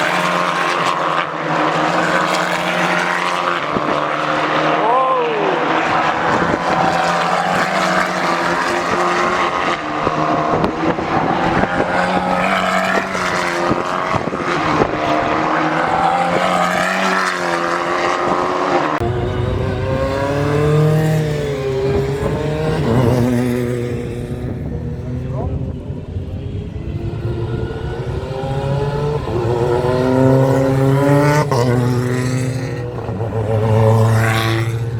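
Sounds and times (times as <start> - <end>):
racing car engines: 0.0 - 34.9.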